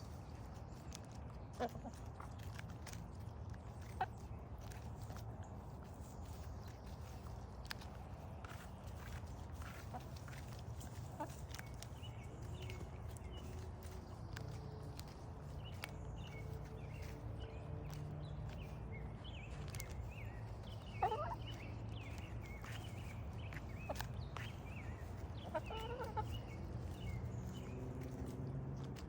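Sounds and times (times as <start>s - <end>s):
chickens clucking and chirping: 0.0s - 29.0s.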